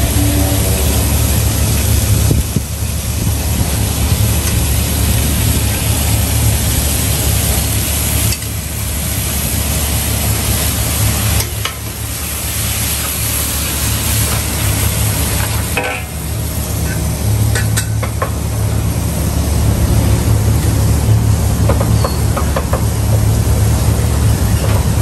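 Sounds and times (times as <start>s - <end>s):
gas burner roaring: 0.0s - 25.0s
noodles sizzling in a wok: 0.0s - 25.0s.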